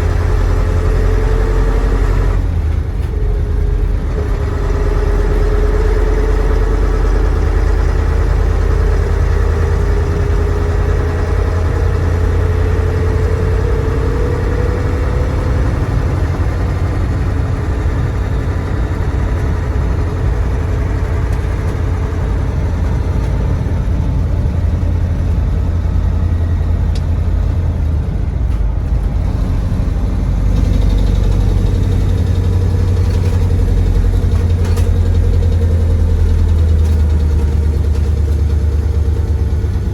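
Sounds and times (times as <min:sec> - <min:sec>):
diesel truck engine with whine: 0:00.0 - 0:39.9.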